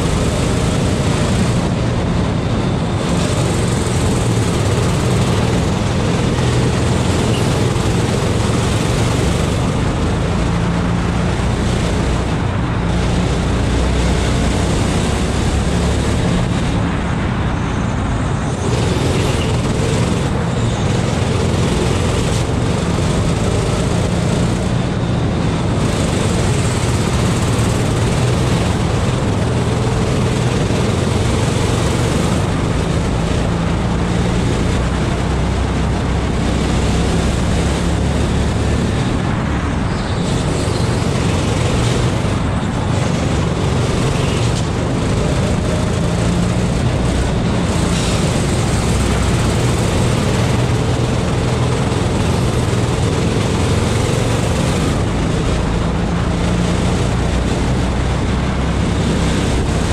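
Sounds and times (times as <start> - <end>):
go-kart engine running hard: 0.0 - 59.9
wind rush on camera: 0.0 - 59.9.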